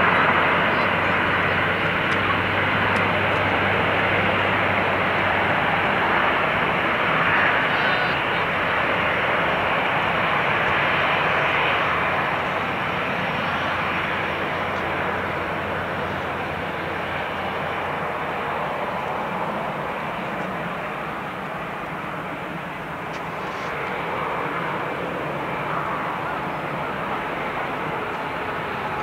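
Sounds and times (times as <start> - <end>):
distant turboprop airliner taking off: 0.0 - 29.0.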